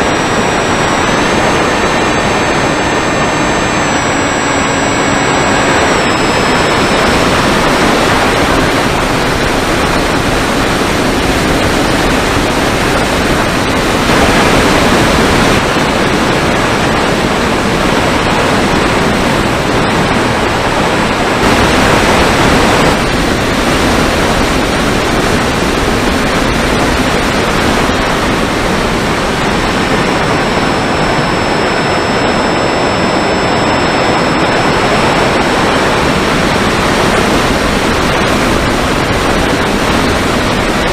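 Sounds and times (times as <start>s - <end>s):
electric motor whine: 0.0s - 40.9s
wind rushing over camera: 0.0s - 40.9s.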